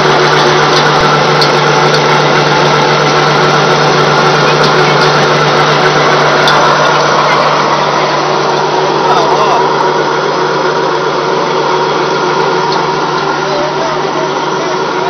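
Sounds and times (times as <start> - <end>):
pellet mill machine hum: 0.0 - 15.0.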